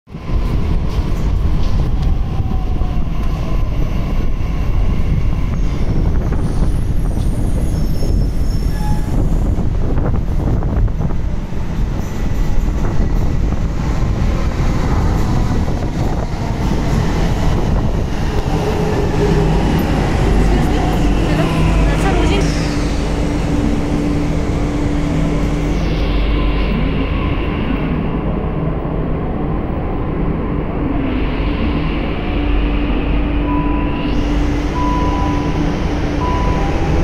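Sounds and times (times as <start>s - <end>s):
train rumbling: 0.1s - 37.0s.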